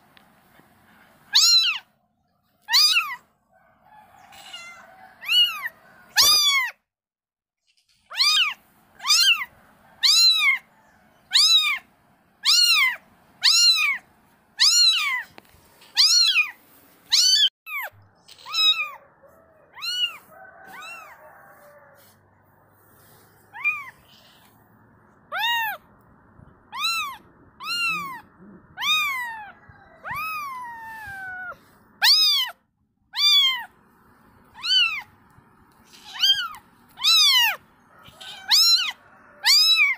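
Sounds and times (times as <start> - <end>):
kittens mewing: 1.3 - 1.9, 2.6 - 3.2, 4.2 - 6.8, 7.9 - 10.7, 11.3 - 22.3, 23.3 - 33.8, 34.5 - 39.9.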